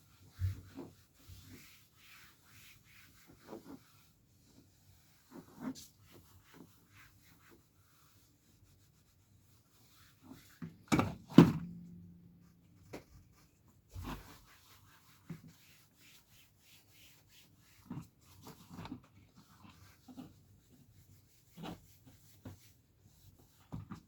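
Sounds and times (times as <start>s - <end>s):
rubbing and small ticks: 0.0s - 10.8s, 12.4s - 24.0s.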